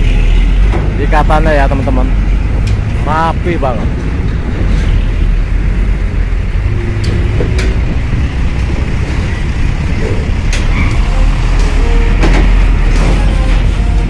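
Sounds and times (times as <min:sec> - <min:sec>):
diesel truck engines rumbling: 0:00.0 - 0:14.0.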